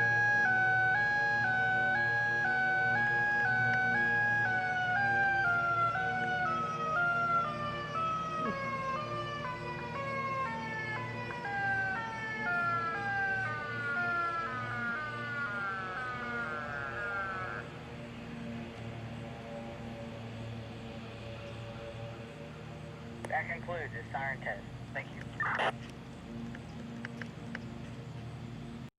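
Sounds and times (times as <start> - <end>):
tornado siren two-tone warble: 0.0 - 23.2.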